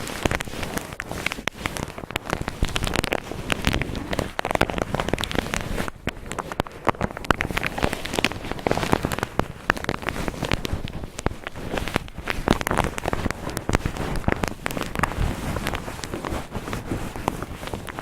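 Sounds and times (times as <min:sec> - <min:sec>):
cotton rubbing on microphone: 0:00.0 - 0:18.0.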